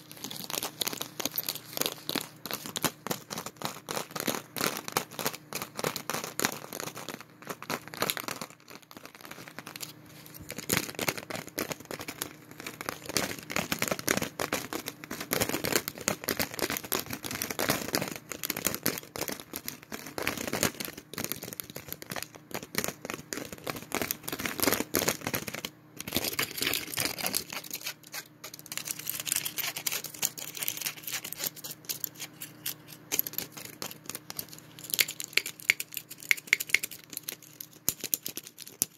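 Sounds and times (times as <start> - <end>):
foil and plastic crinkling: 0.0 - 38.9.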